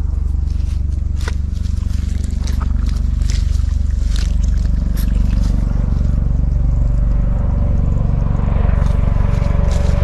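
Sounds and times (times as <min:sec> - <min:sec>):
low pulsing engine drone: 0:00.0 - 0:10.0.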